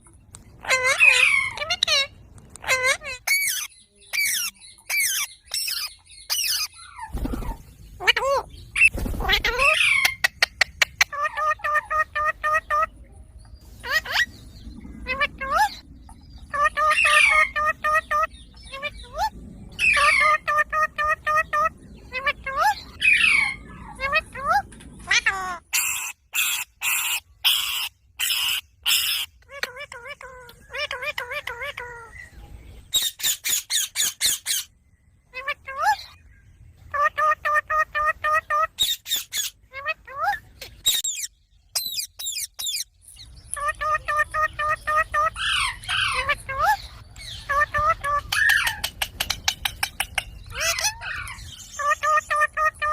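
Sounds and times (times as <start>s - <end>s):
parakeet calling: 0.6s - 12.9s, 13.8s - 32.3s, 35.3s - 52.9s
parrot screeching and squawking: 0.6s - 12.9s, 13.8s - 14.3s, 15.0s - 15.8s, 16.5s - 32.2s, 32.9s - 34.7s, 35.3s - 36.2s, 36.9s - 42.8s, 43.6s - 52.9s.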